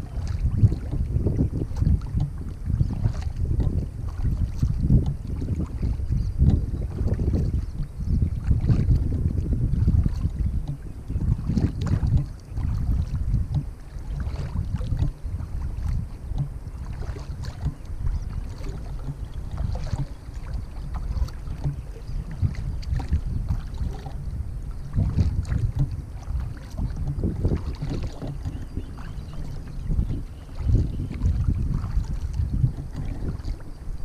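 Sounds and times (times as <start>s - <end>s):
paddle strokes splashing: 0.0s - 34.0s
water washing along hull: 0.0s - 34.0s
wind rumble on microphone: 0.0s - 34.0s.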